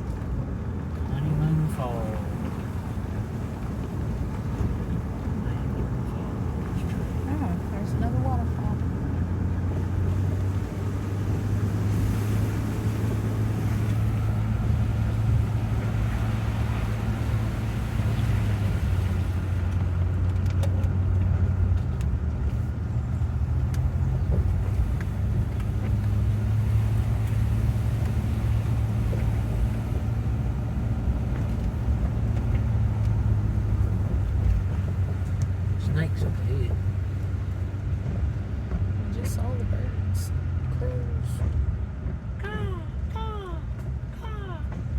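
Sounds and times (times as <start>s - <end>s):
engine and tyre drone: 0.0s - 43.1s.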